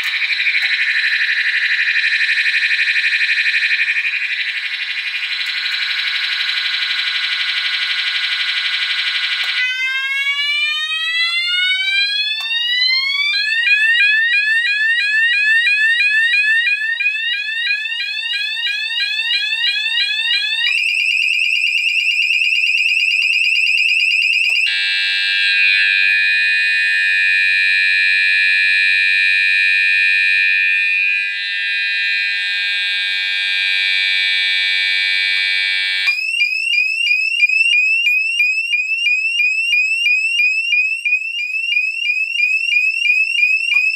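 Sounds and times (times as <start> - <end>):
fire alarm sounder tones: 0.0 - 43.9.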